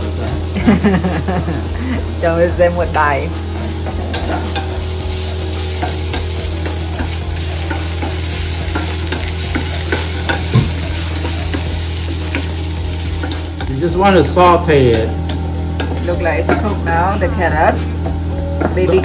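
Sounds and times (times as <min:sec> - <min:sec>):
carrots sizzling in skillet: 0:00.0 - 0:19.0.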